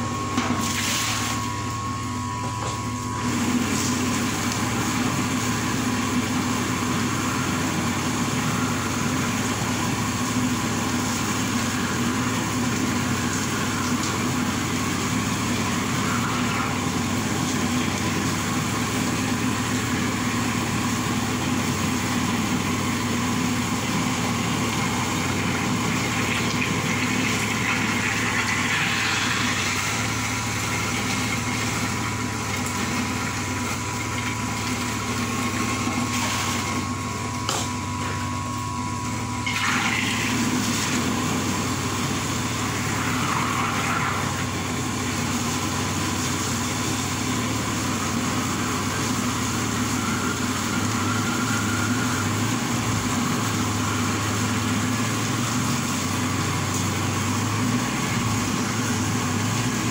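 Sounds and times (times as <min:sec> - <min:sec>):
grinder motor running: 0:01.4 - 0:59.9.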